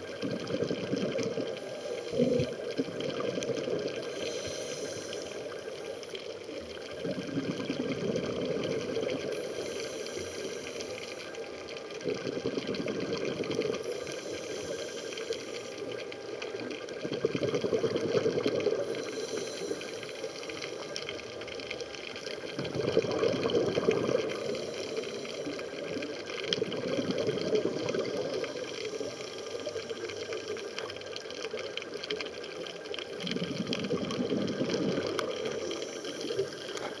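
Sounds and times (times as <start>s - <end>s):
diver breathing underwater: 0.0s - 16.1s, 17.2s - 21.3s, 22.4s - 31.1s, 33.1s - 37.0s
exhaled bubbles surging: 0.0s - 37.0s.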